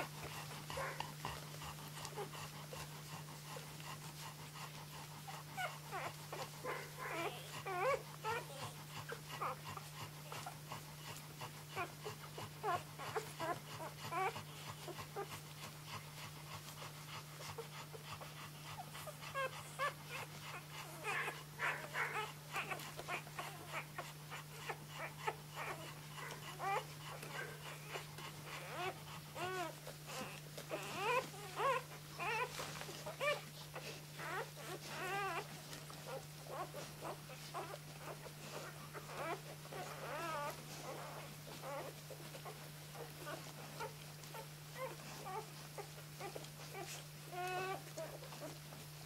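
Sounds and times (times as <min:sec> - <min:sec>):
puppies squeaking and whimpering: 0:00.1 - 0:48.8.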